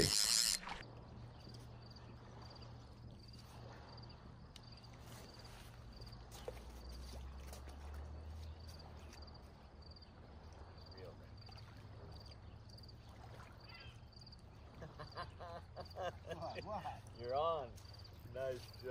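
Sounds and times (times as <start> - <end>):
insect chirping: 0.0 - 6.2, 8.6 - 14.5, 15.1 - 18.9.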